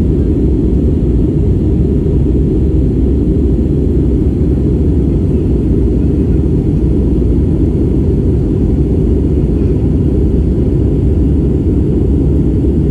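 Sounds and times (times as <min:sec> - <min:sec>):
airliner engines droning: 0:00.0 - 0:12.9.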